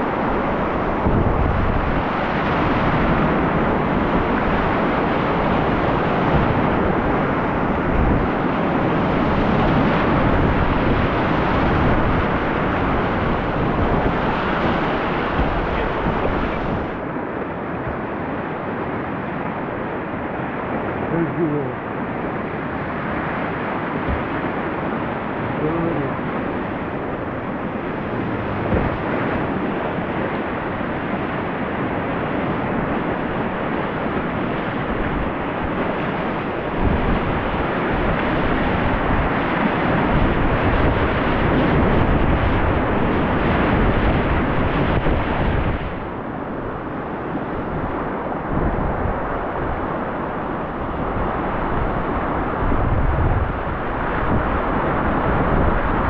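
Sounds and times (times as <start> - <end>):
wind buffeting microphone: 0.0 - 21.0, 21.7 - 56.0
whitewater rapids rushing: 0.0 - 56.0.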